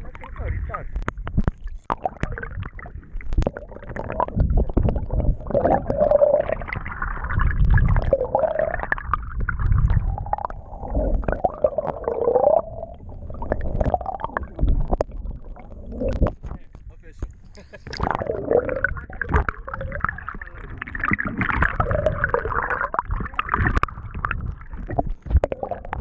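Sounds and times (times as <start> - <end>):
muffled wavering tones: 0.0 - 16.9, 18.0 - 26.0
underwater water rumbling and gurgling: 0.0 - 26.0.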